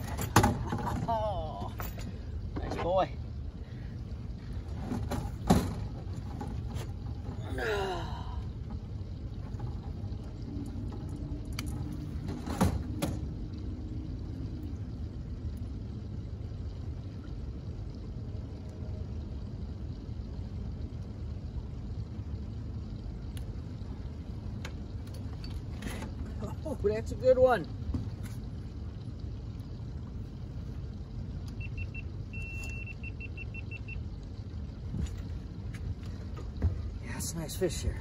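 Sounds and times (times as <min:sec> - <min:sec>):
low wind: 0:00.0 - 0:38.0
water noise: 0:00.0 - 0:38.0.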